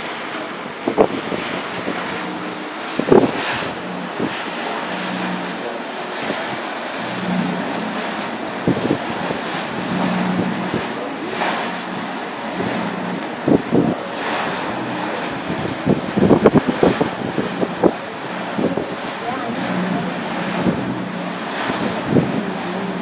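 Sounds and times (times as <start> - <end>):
choppy sea rushing: 0.0 - 23.0
low engine hum: 0.0 - 23.0
wind buffeting microphone: 0.0 - 23.0.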